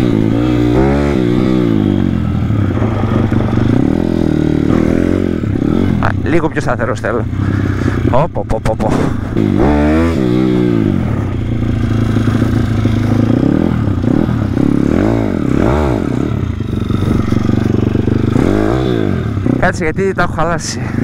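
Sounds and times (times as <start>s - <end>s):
motorbike engine idling and revving: 0.0s - 21.0s.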